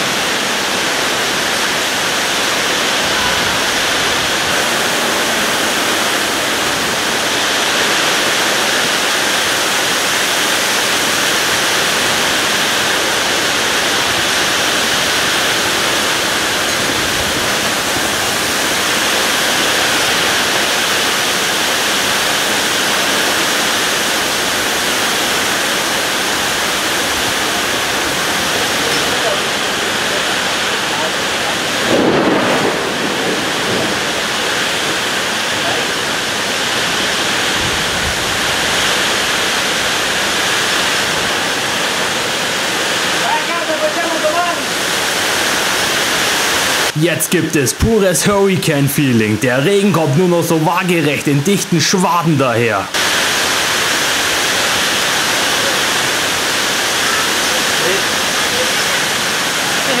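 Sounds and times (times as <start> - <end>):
heavy rain hissing: 0.0 - 60.0.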